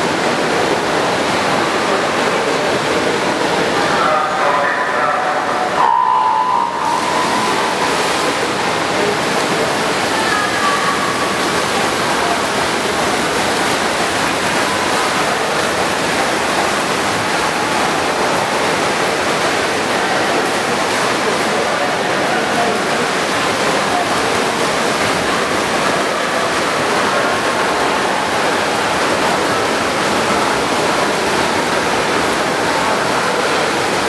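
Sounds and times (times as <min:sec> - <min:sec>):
swimmers splashing: 0:00.0 - 0:34.0
crowd din: 0:01.7 - 0:34.0.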